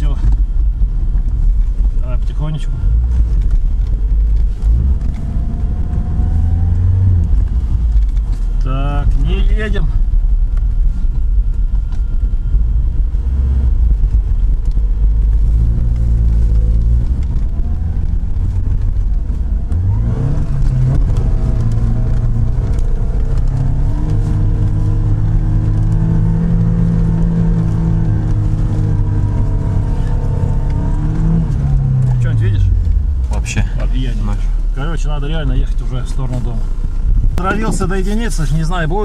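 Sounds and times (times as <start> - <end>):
car engine rumbling and revving: 0.0 - 39.0.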